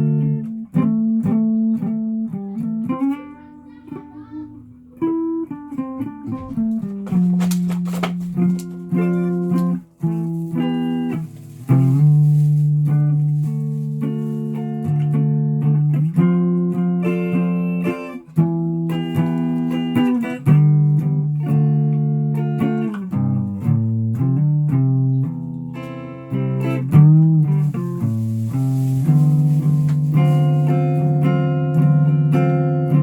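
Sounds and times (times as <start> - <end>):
solo guitar: 0.0 - 33.0.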